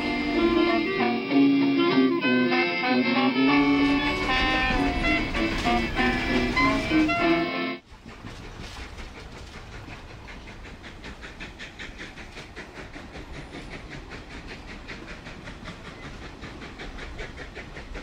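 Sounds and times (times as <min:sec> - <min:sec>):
train clattering: 0:00.0 - 0:18.0.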